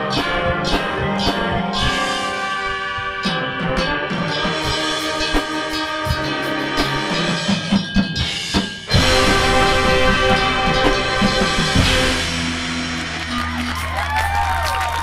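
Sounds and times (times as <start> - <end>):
brass chords: 0.0 - 7.8, 8.9 - 13.6
drums: 0.0 - 15.0.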